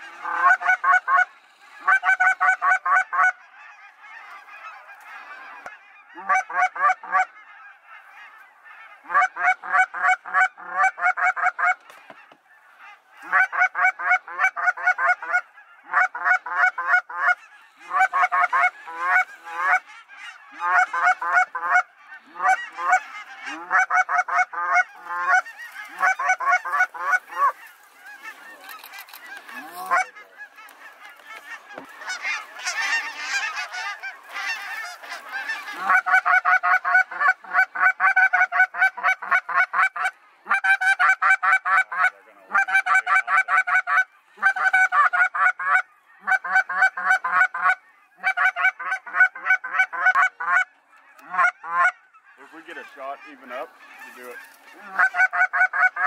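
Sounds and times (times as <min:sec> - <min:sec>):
chorus of many geese: 0:00.0 - 0:56.0
goose honking: 0:00.0 - 0:56.0.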